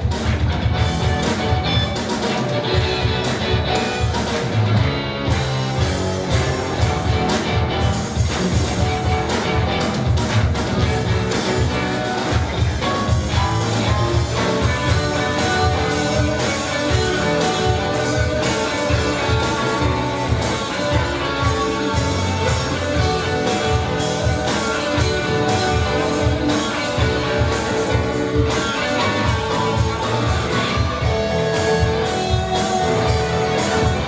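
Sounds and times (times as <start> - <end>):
drums with steady beat: 0.0 - 34.0
electric guitars strumming: 0.0 - 34.0.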